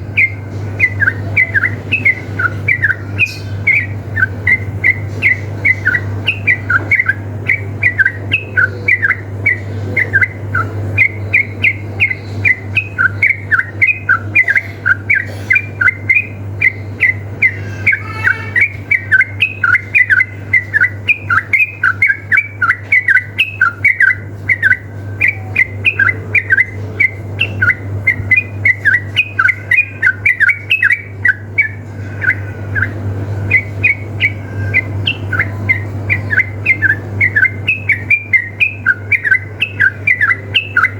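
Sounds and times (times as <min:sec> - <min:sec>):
bulbuls chirping song: 0:00.0 - 0:40.9
steady low hum: 0:00.0 - 0:40.9.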